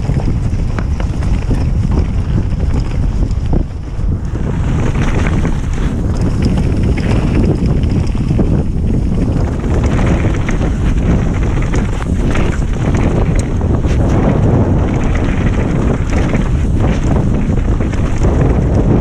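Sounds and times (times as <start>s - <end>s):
bike clicks and rattles: 0.0s - 19.0s
bike tyre rumble: 0.0s - 19.0s
wind buffeting microphone: 0.0s - 19.0s.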